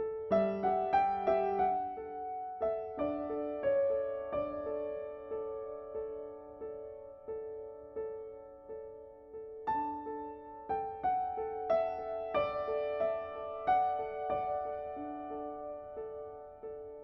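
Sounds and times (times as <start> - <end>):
slow piano notes: 0.0 - 17.0.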